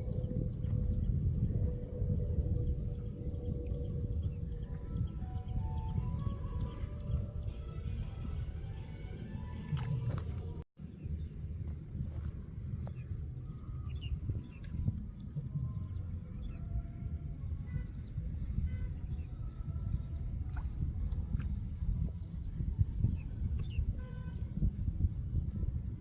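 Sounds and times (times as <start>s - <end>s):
birds chirping: 0.0s - 26.0s
low rumble: 0.0s - 26.0s.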